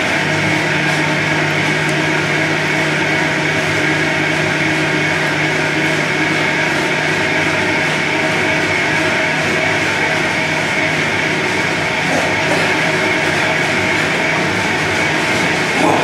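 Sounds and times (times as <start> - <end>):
exercise bike whirring: 0.0 - 16.0.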